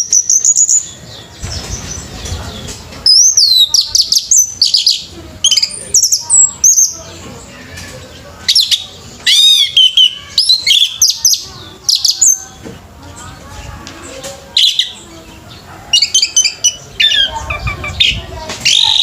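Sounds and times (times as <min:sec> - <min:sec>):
thrush singing: 0:00.0 - 0:19.0.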